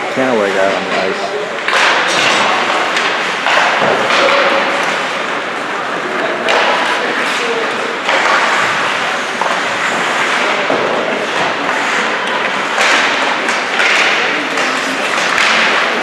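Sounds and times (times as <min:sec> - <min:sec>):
arena crowd rush: 0:00.0 - 0:16.0.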